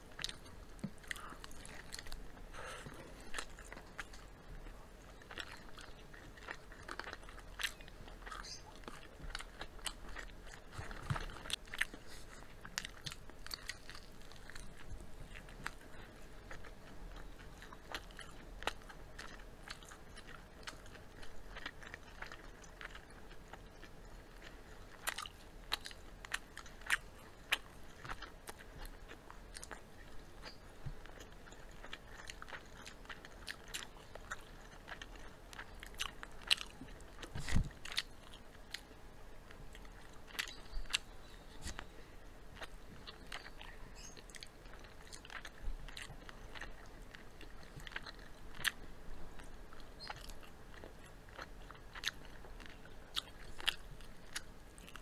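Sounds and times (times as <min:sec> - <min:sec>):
chewing crispy fried chicken: 0:00.0 - 0:55.0.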